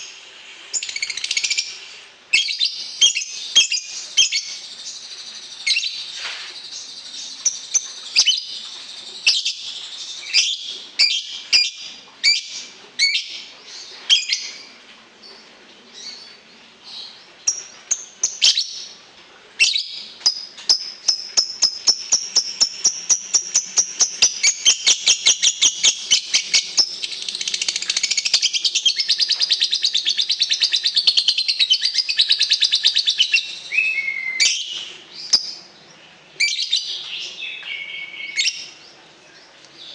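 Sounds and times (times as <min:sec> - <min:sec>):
songbird singing: 0:00.8 - 0:19.0, 0:19.6 - 0:39.9.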